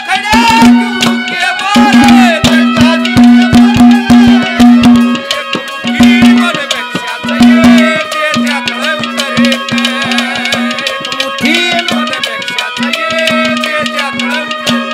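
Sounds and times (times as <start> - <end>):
fast hand-drum strokes: 0.0 - 14.9
gliding melody line: 0.0 - 14.9.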